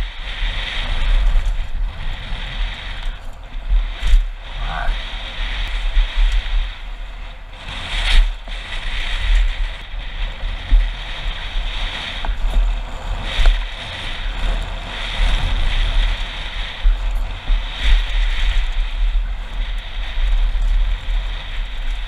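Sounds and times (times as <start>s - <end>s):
bike tyres crunching over gravel: 0.0s - 22.0s
wind buffeting microphone: 0.0s - 22.0s.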